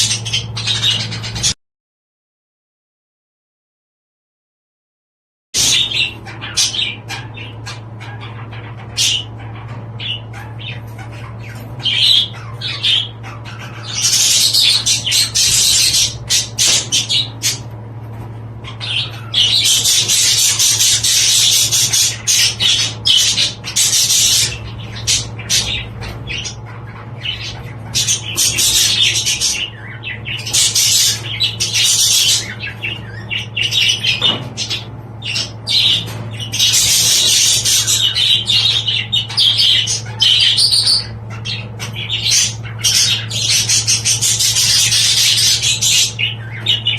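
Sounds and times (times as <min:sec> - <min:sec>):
budgerigars chattering and squawking: 0:00.0 - 0:01.6, 0:05.6 - 0:46.9
steady low hum: 0:05.6 - 0:46.9.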